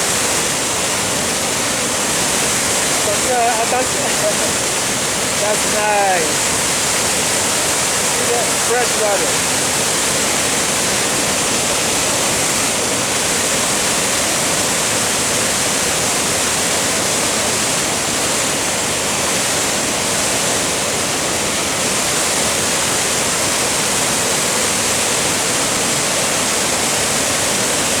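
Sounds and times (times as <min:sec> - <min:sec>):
waterfall rushing over rock: 0:00.0 - 0:28.0.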